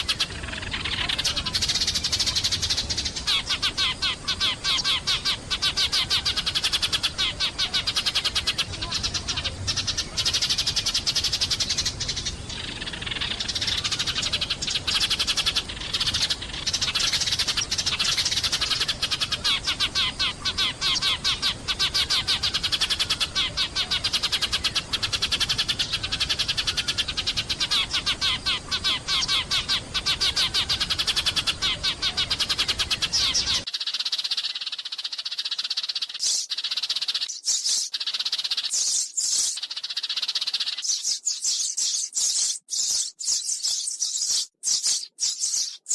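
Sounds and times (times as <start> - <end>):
sparrows chirping: 0.0 - 45.9.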